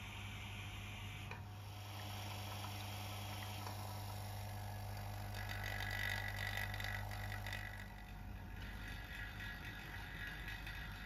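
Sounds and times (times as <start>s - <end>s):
electric vacuum pump humming: 0.0s - 11.0s.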